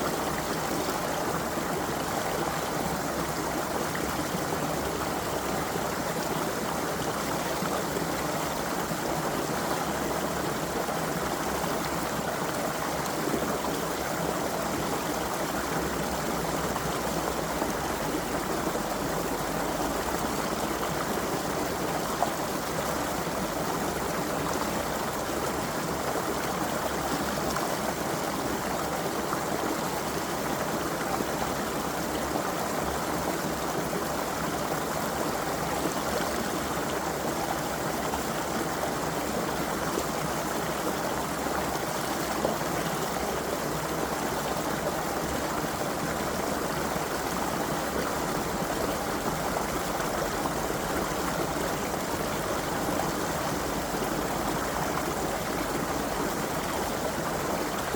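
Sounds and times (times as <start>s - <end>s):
creek running over rocks: 0.0s - 57.9s.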